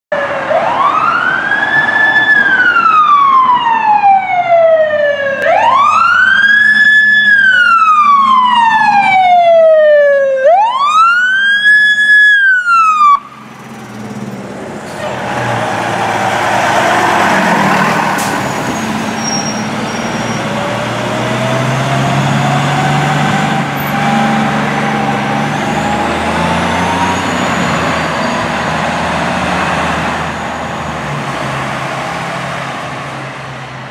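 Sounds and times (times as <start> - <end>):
fire engine siren wailing: 0.1 - 13.7, 14.8 - 33.9
fire truck engine rumbling: 0.1 - 33.9.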